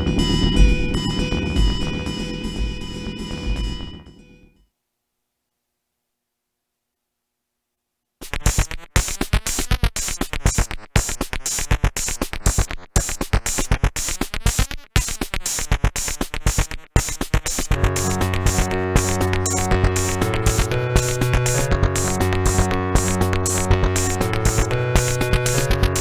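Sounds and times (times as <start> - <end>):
fast drum machine pattern: 0.0 - 4.2, 8.2 - 26.0.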